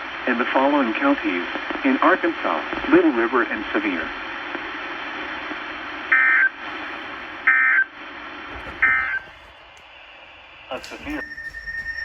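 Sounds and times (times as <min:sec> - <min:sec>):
radio hiss: 0:00.0 - 0:11.2.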